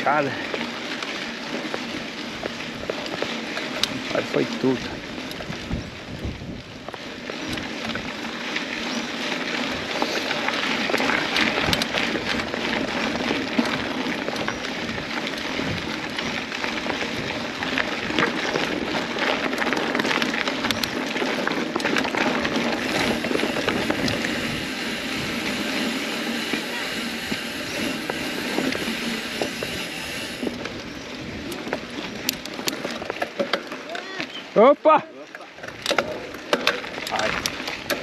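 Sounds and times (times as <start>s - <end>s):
bike rattles and clicks: 0.0s - 38.0s
bike tyres rushing on dirt: 0.0s - 38.0s.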